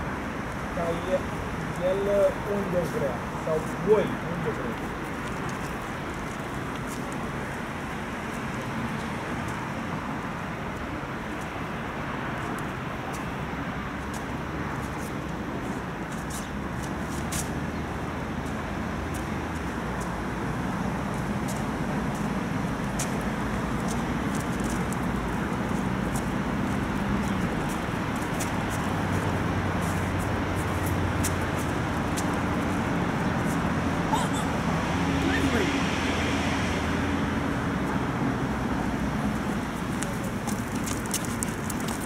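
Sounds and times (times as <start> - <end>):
traffic noise: 0.0 - 42.0.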